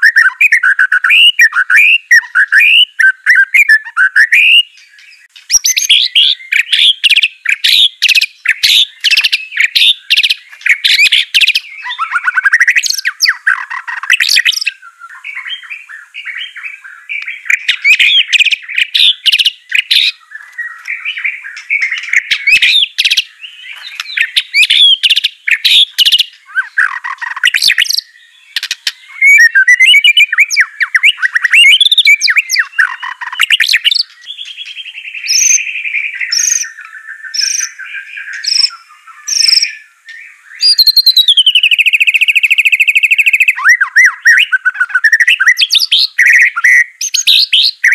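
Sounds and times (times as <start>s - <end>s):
songbird whistles and trills: 0.0s - 47.9s.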